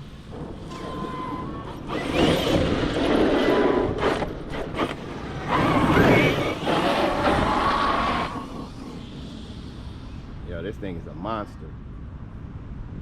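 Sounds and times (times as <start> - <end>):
electric motor whine: 0.0 - 10.4
loud tire noise: 0.0 - 10.6.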